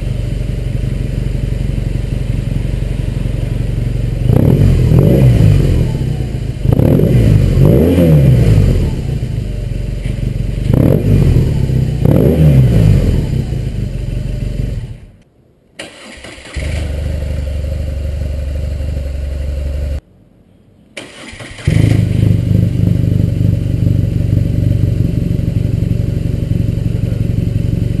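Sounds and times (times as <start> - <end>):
motorcycle engine revving: 0.0 - 15.2, 16.0 - 20.0, 21.1 - 28.0.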